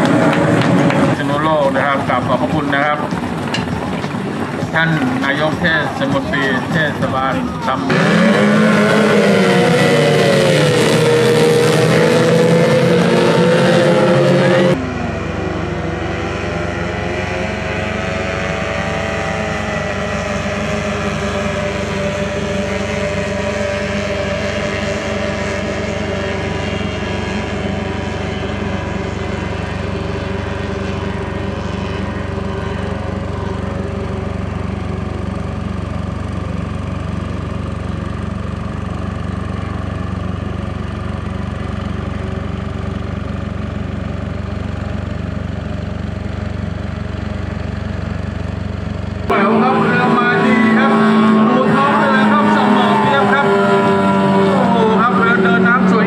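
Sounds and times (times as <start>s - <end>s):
powerboat engines at high revs: 0.0s - 56.0s.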